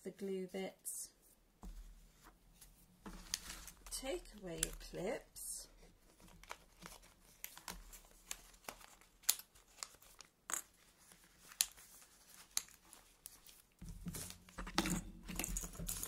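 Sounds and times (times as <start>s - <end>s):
paper rustling and crinkling: 1.8s - 4.8s, 5.8s - 16.0s.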